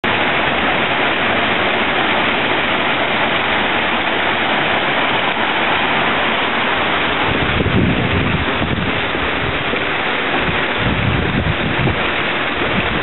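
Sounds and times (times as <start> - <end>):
water cascading over rocks: 0.0 - 13.0.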